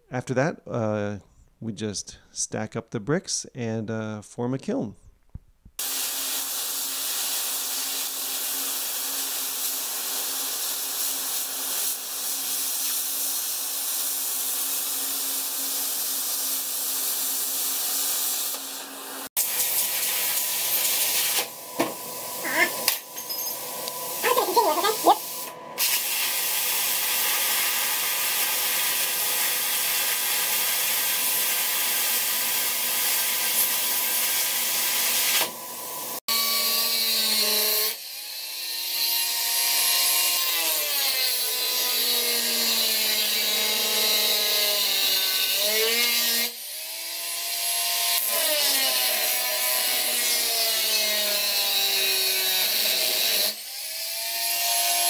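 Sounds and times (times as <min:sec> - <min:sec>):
angle grinder cutting steel: 0:05.8 - 0:21.5, 0:22.3 - 0:55.0.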